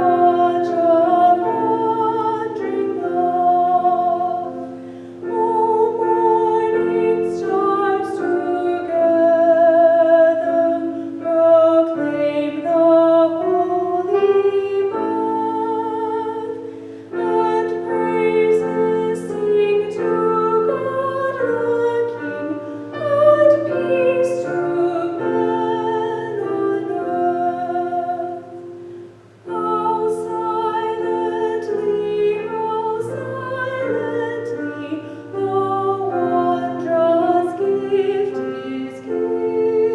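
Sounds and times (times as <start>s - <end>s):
piano accompaniment: 0.0s - 39.9s
woman singing a hymn: 0.0s - 39.9s.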